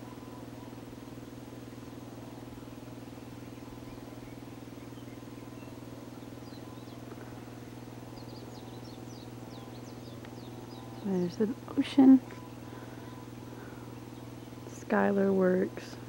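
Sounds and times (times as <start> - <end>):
low motor hum: 0.0 - 16.0
faint bird chirps: 1.8 - 15.0.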